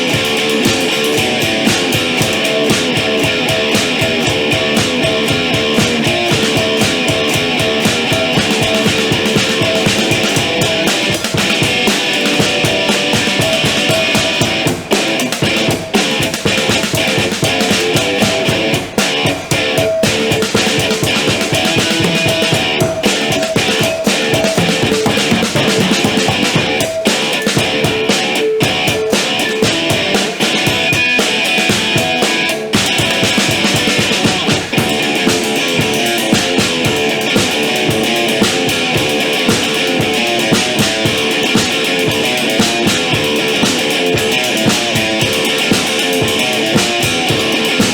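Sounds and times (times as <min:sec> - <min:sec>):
drum kit beats: 0:00.0 - 0:47.9
electric guitar: 0:00.0 - 0:47.9.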